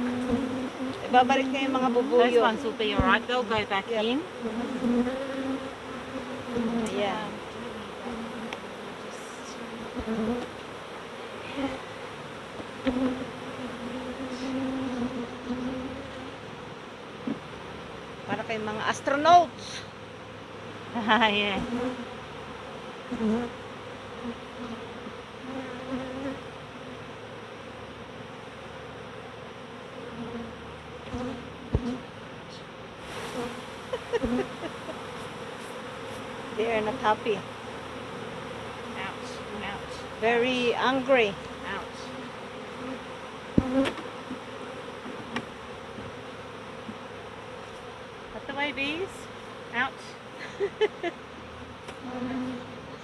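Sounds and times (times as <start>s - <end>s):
bees buzzing: 0.0s - 53.0s.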